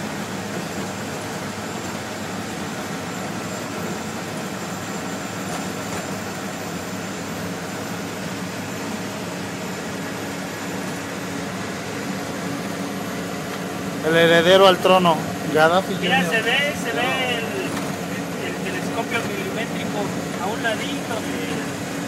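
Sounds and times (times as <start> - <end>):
engine drone: 0.0 - 22.0
road noise: 0.0 - 22.0.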